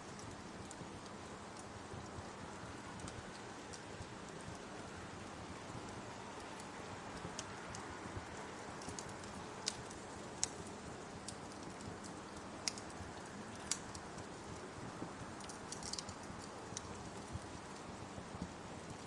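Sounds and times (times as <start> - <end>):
rain falling: 0.0 - 19.0
wood fire crackling and popping: 0.0 - 19.0.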